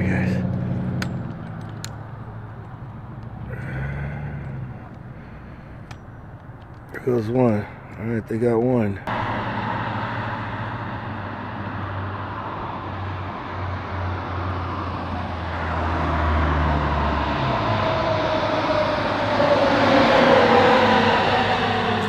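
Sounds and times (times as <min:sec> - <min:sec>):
low engine hum: 0:00.0 - 0:22.0
road traffic noise: 0:00.0 - 0:22.0
vehicle passing close: 0:00.0 - 0:22.0.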